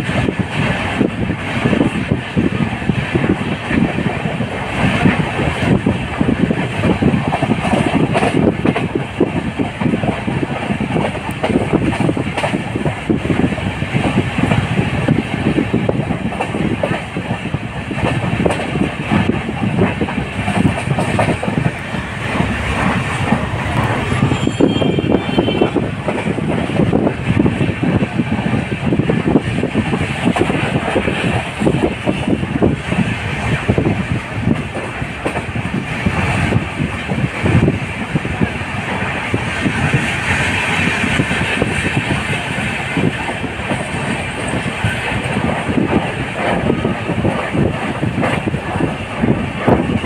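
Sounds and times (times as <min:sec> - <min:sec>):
clickety-clack over rail joints: 0:00.0 - 0:50.0
train wheels rumbling on track: 0:00.0 - 0:50.0.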